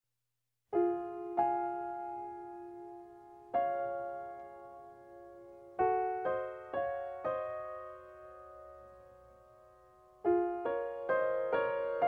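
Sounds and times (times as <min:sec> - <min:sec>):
slow piano chords: 0:00.7 - 0:12.0.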